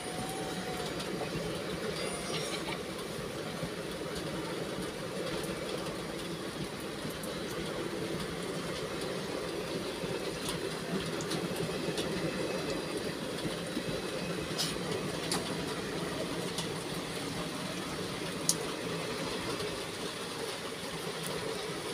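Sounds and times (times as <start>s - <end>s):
train wheels rumbling on track: 0.0s - 21.9s.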